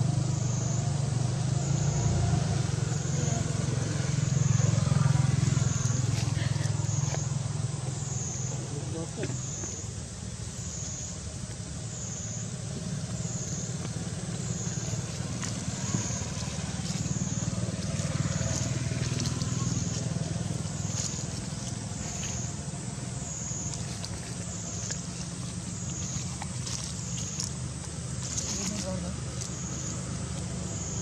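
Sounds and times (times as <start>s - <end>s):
high pulsing drone: 0.0s - 31.0s
motorbike traffic rumble: 0.0s - 31.0s.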